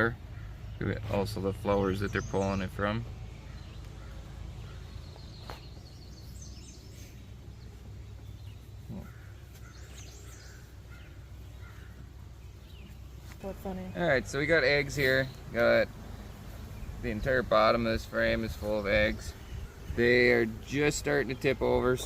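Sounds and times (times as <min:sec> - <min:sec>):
birds calling faintly: 0:00.0 - 0:22.0.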